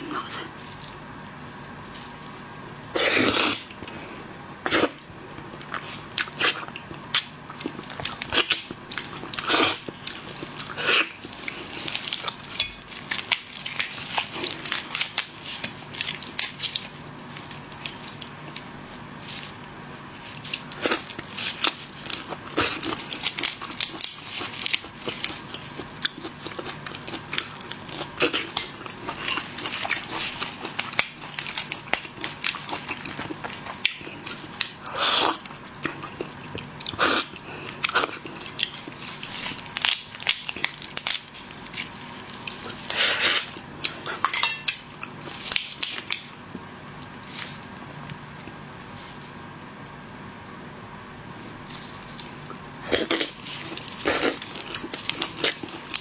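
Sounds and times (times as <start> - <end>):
biting and chewing: 4.7 - 46.6, 51.6 - 56.0.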